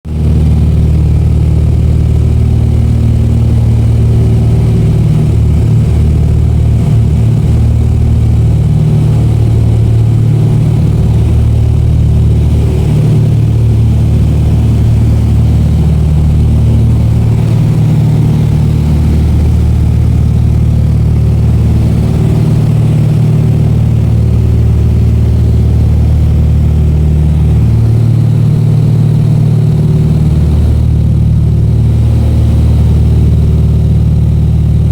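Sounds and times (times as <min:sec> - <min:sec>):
propeller and engine hum: 0:00.0 - 0:34.9.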